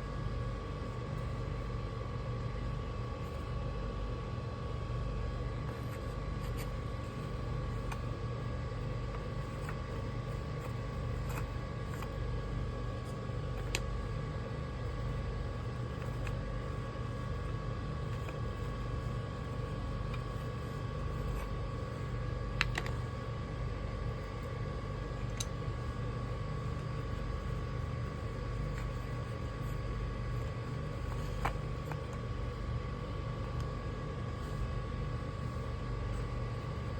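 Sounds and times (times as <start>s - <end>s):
faint steady whine: 0.0s - 36.9s.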